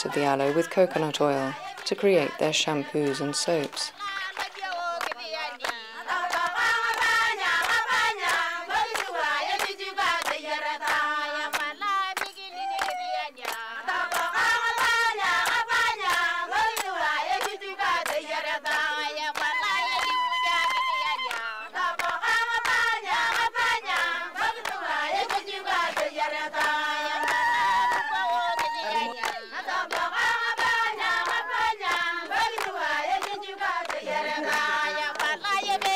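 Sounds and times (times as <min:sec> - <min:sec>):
rhythmic hand clapping: 0:00.0 - 0:35.9
women singing together: 0:00.0 - 0:35.9.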